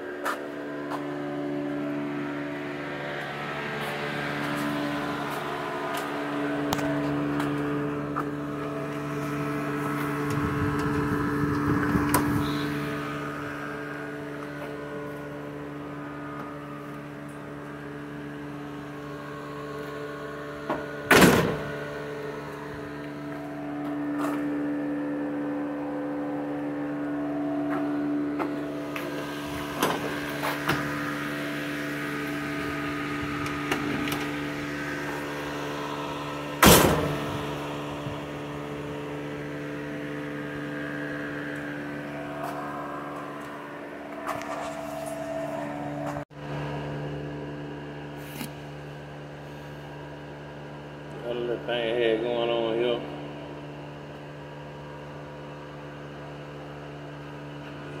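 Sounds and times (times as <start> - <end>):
electric fan motor hum: 0.0 - 58.0.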